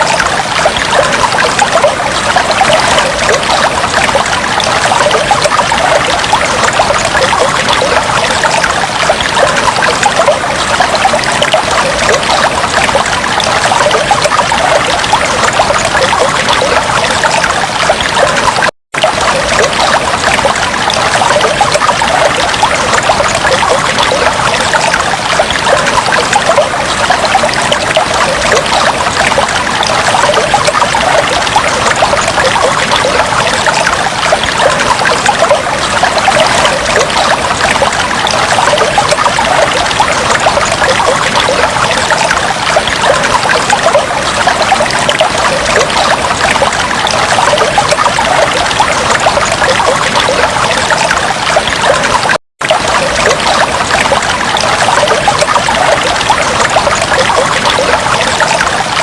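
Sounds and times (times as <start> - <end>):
fish tank water bubbling: 0.0 - 59.0.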